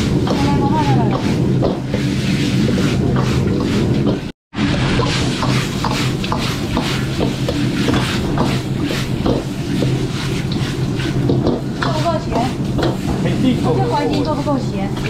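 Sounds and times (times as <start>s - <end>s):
gas burner roaring: 0.0s - 15.0s
metal spatula scraping a wok: 0.0s - 15.0s.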